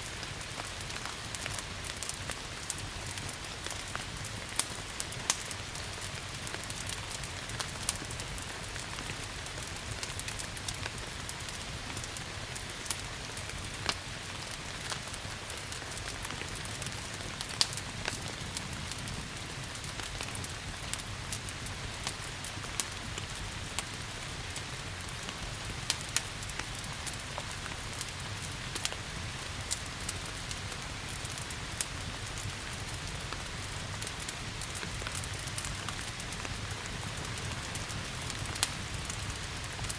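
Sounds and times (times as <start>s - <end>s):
steady rain falling: 0.0s - 39.9s
wood fire crackling and popping: 0.0s - 39.9s.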